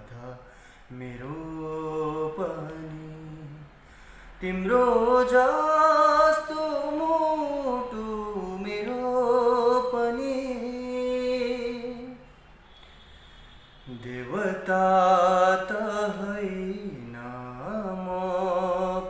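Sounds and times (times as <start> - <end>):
man singing unaccompanied: 0.0 - 12.3, 13.9 - 19.0.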